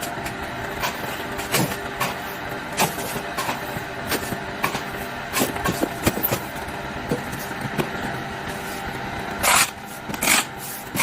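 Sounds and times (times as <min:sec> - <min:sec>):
motor hum: 0:00.0 - 0:11.0.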